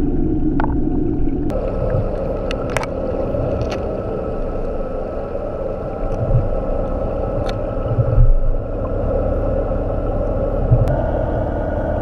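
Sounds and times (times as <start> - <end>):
underwater boat engine rumble: 0.0 - 12.0
underwater water swells: 0.0 - 12.0.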